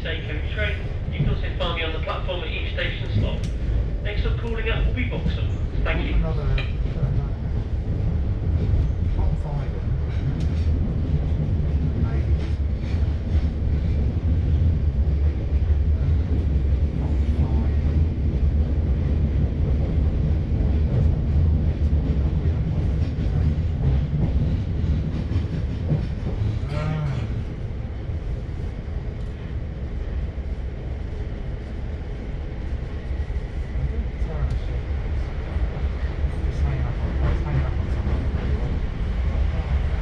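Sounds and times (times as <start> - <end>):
electric train rumble inside carriage: 0.0 - 40.0.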